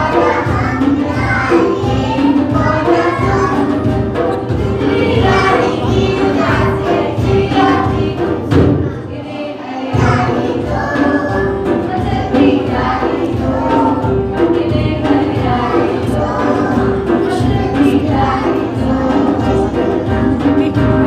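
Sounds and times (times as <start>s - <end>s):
children singing over backing music: 0.0s - 21.0s.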